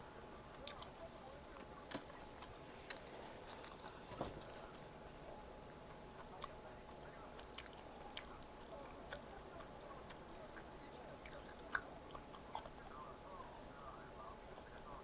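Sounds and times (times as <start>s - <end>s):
chewing food: 0.5s - 15.0s.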